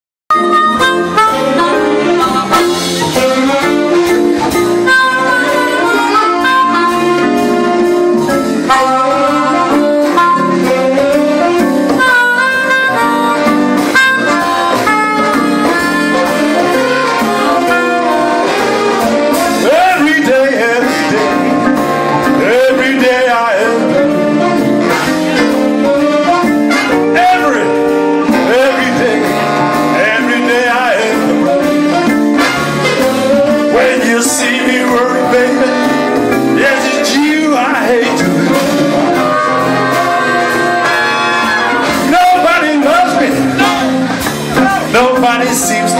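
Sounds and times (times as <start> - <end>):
big band blues instrumental: 0.3 - 45.9.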